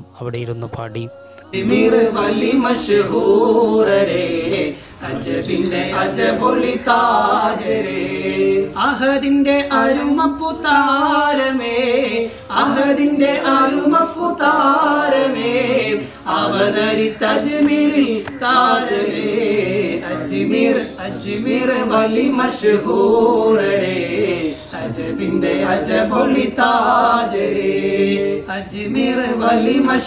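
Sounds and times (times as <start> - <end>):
men singing together: 0.7 - 30.0.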